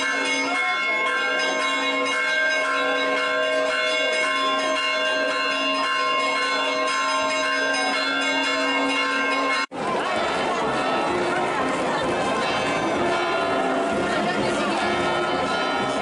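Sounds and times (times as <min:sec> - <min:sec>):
church bells ringing a peal: 0:00.0 - 0:16.0.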